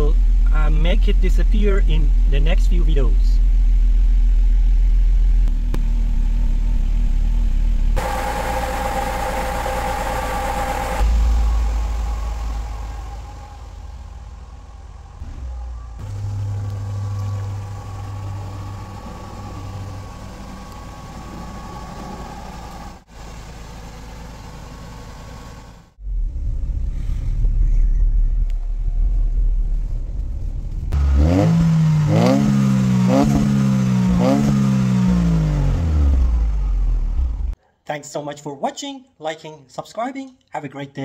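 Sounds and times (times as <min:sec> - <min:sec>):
car engine idling and revving: 0:00.0 - 0:37.6.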